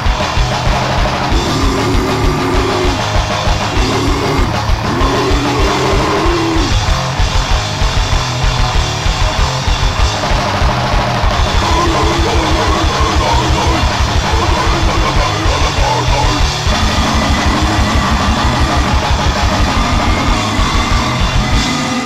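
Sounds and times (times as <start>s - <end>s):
distorted guitars: 0.0s - 22.0s
rapid-fire drumming: 0.0s - 22.0s.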